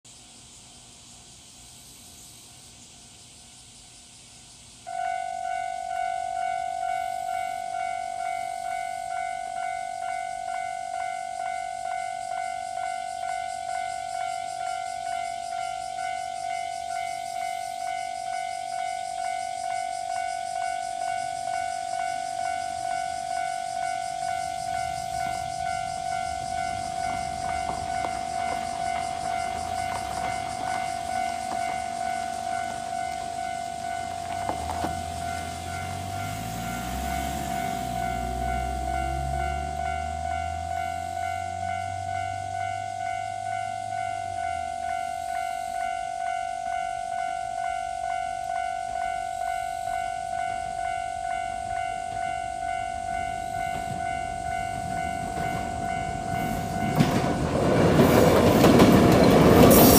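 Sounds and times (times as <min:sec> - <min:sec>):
level crossing alarm ringing: 0:04.9 - 0:59.9.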